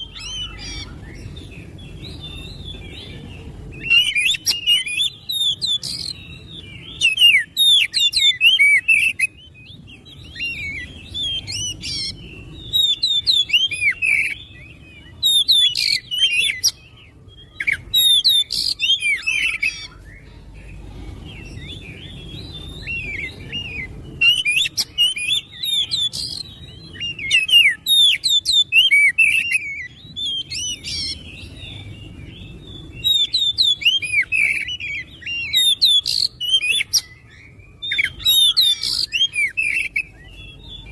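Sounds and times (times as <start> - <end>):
bird singing whistled phrases: 0.0 - 20.3, 21.3 - 40.9.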